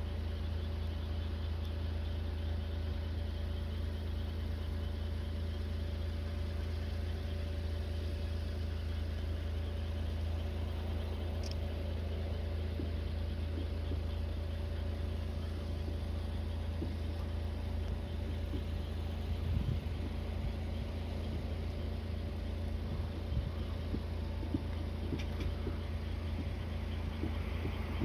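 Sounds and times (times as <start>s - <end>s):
faint constant tones: 0.0s - 28.0s
steady low drone: 0.0s - 28.0s.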